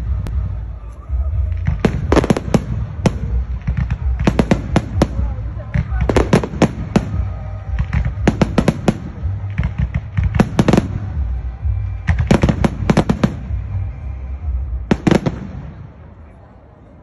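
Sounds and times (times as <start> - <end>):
fireworks bangs: 1.3 - 16.2.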